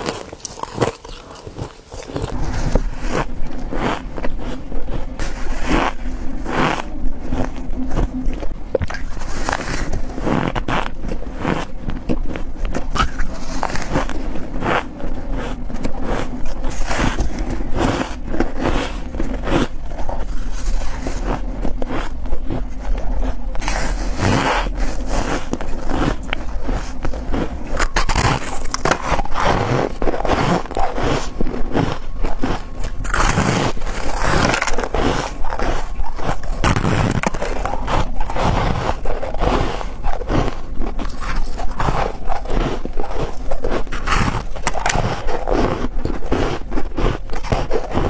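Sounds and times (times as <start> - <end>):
crunchy ice chewing: 0.0 - 48.0.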